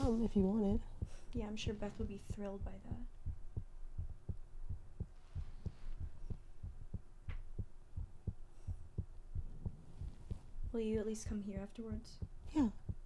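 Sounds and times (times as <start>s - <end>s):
faint steady hum: 0.0s - 13.0s
low thumping heartbeat-like pulse: 0.0s - 13.0s.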